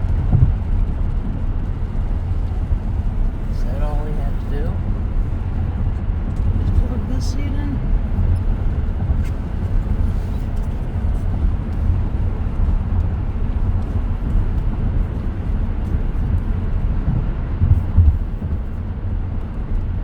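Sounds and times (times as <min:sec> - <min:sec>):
tyre and road noise in car: 0:00.0 - 0:20.0.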